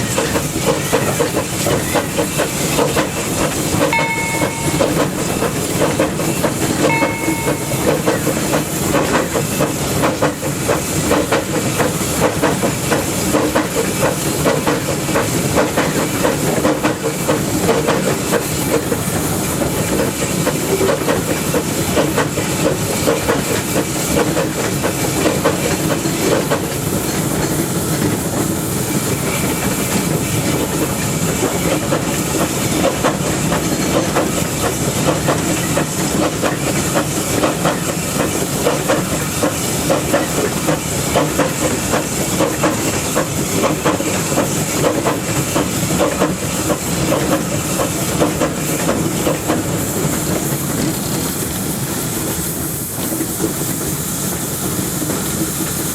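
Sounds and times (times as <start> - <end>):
wheels clattering on track: 0.0 - 51.5
steam hissing: 0.0 - 55.9.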